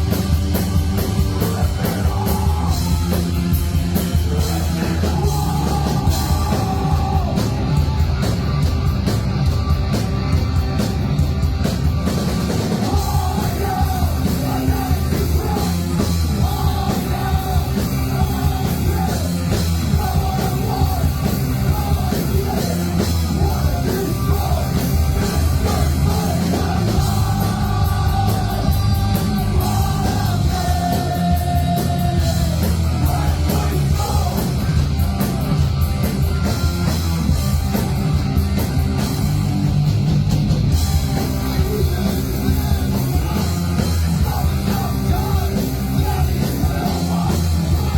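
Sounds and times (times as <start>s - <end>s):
heavy rock band playing: 0.0s - 47.9s.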